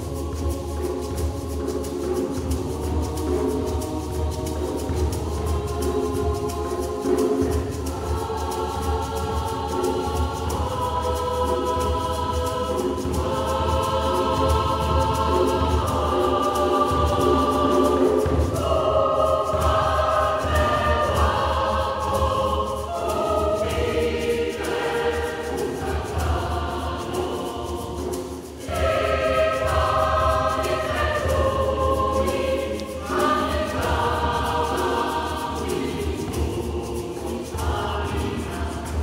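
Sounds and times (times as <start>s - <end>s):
mixed choir singing: 0.0s - 39.0s.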